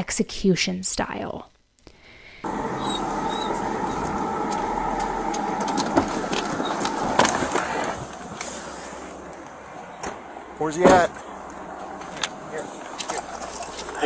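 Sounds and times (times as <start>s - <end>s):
vehicle cabin noise: 2.4s - 14.0s.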